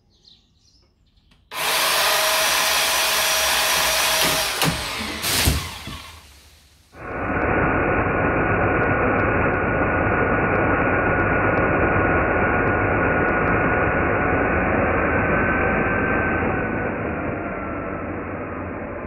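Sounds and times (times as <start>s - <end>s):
slowed electric chainsaw drone: 1.5s - 19.0s.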